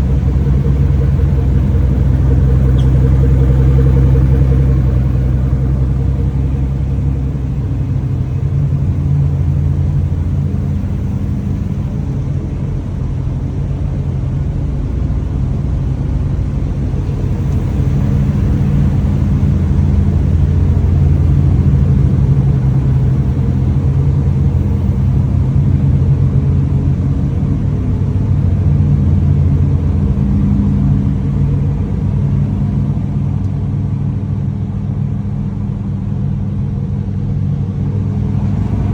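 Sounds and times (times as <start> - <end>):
car engine rumbling: 0.0 - 38.9.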